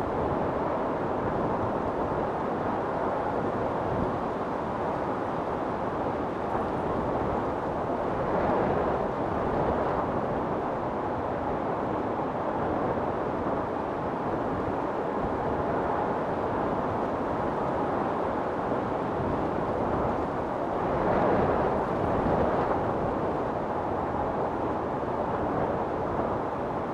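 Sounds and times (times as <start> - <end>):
wind storm roaring: 0.0 - 26.9.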